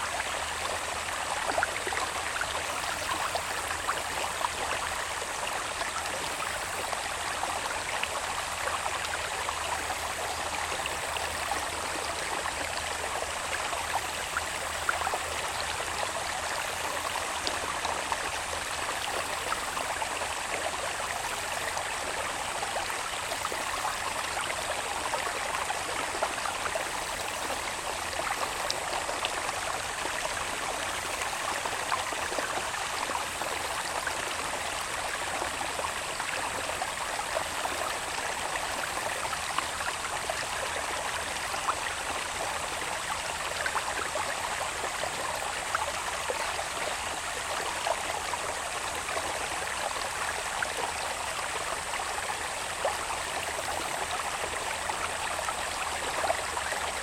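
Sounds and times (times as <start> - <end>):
water babbling over stream bed: 0.0 - 57.0.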